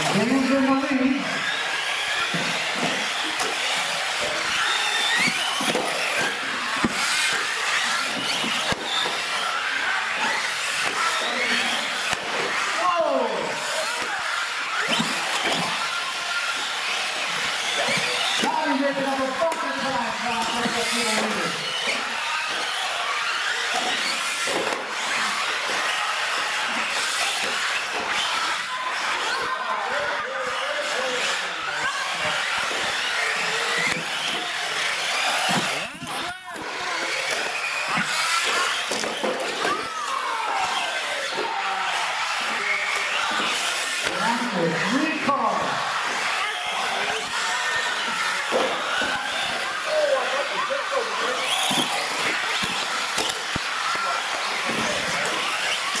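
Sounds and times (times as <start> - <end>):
toy truck motor whine: 0.0 - 56.0
tyre noise on concrete: 0.0 - 56.0.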